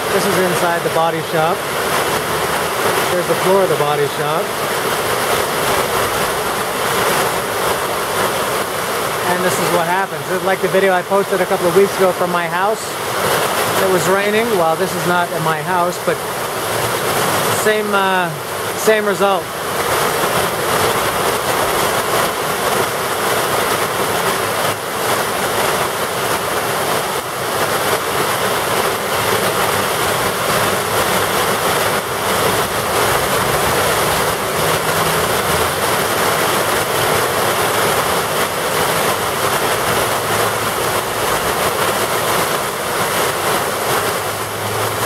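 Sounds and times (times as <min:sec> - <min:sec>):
torrential rain on street: 0:00.0 - 0:45.0.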